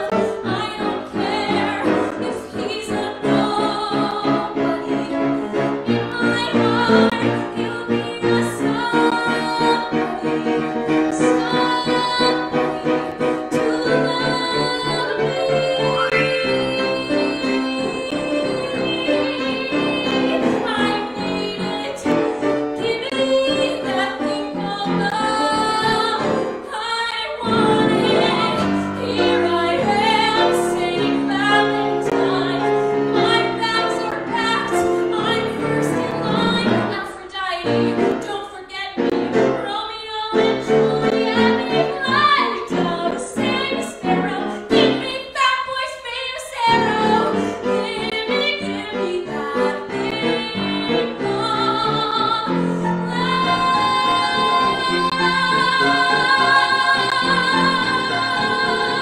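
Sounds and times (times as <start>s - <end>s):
grand piano accompaniment: 0.0s - 59.0s
woman singing: 0.0s - 59.0s.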